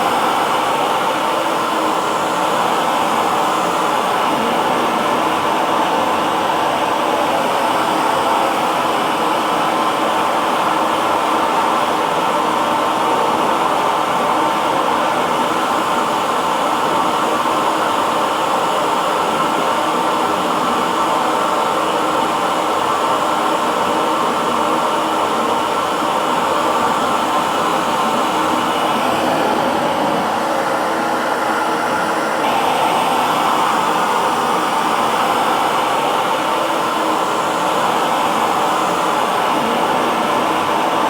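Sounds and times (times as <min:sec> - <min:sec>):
hair dryer running: 0:00.0 - 0:41.0.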